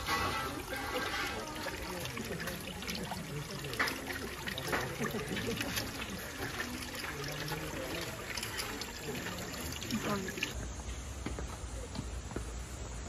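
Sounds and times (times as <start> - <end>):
water trickling over stones: 0.0 - 10.8
faint voices: 0.0 - 13.0.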